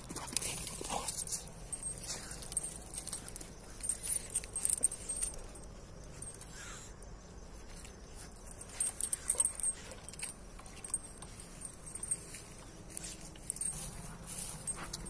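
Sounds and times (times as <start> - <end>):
dogs play-fighting: 0.0 - 6.6, 7.6 - 15.0
metal chain leash jingling: 0.0 - 15.0.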